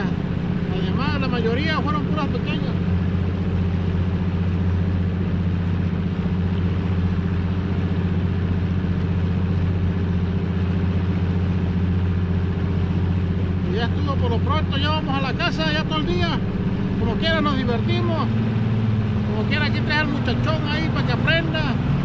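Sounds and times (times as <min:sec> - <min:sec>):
outboard motor droning: 0:00.0 - 0:22.0
rush of wind and water: 0:00.0 - 0:22.0.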